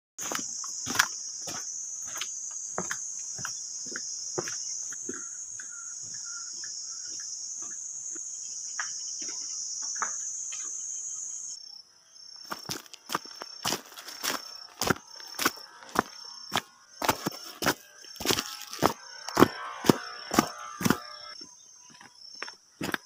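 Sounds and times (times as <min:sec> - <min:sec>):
footsteps on stony dirt path: 0:00.2 - 0:08.3, 0:12.4 - 0:23.0
high-pitched insect chorus: 0:00.2 - 0:23.0.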